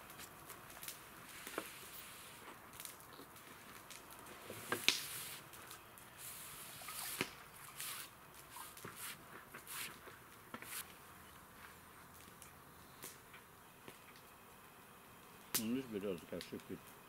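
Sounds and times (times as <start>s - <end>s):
sharp pops from fire: 0.0s - 6.2s, 6.8s - 10.9s, 12.1s - 14.3s, 15.4s - 16.8s
campfire crackling and hissing: 0.0s - 17.0s.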